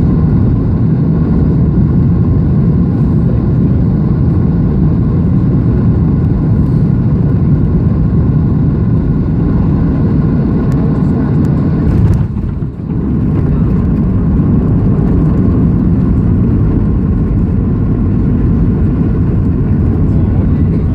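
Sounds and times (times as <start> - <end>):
airplane cabin engine rumble: 0.0 - 20.9.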